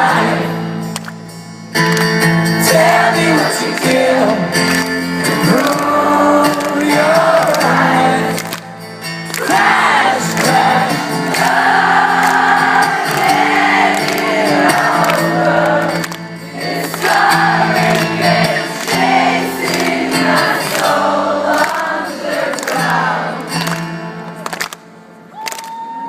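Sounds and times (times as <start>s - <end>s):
crowd singing along: 0.0s - 1.1s, 2.3s - 24.4s
live rock band playing: 0.0s - 21.1s.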